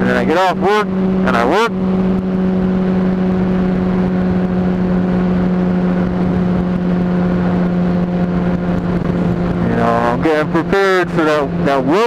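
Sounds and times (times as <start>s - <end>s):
motorcycle engine running: 0.0s - 12.0s
road noise: 0.0s - 12.0s
wind noise: 0.9s - 10.7s.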